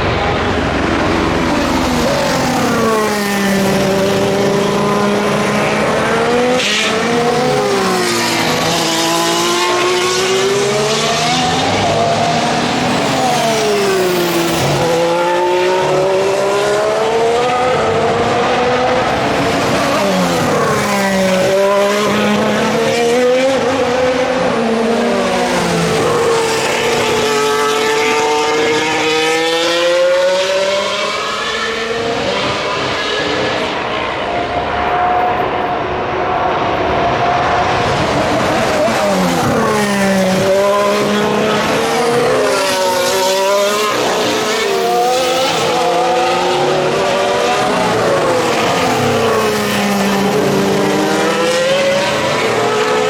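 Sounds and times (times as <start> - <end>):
racing cars passing: 0.0 - 53.0.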